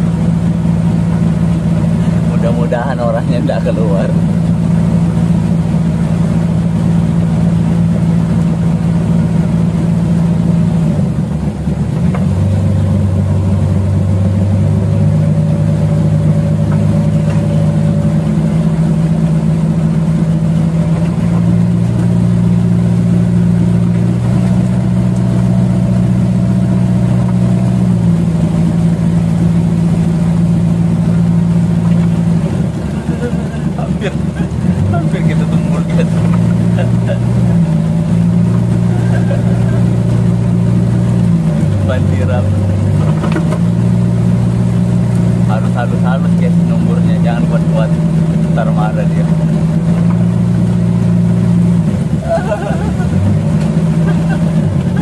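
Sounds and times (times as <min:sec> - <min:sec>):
boat engines running: 0:00.0 - 0:55.0.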